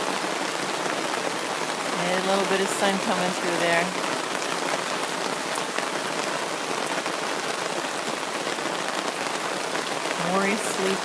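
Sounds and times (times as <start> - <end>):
heavy rain on a canopy: 0.0 - 11.0.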